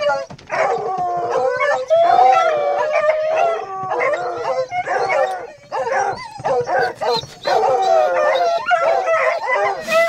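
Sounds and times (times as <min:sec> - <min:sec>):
hounds baying: 0:00.0 - 0:10.0.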